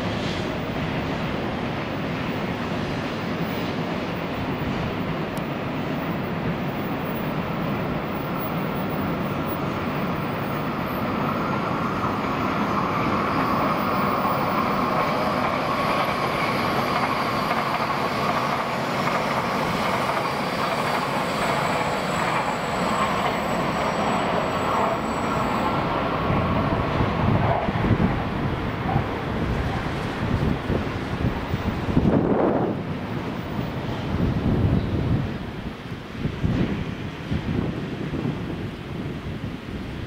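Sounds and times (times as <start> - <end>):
train rushing rail noise: 0.0 - 40.0.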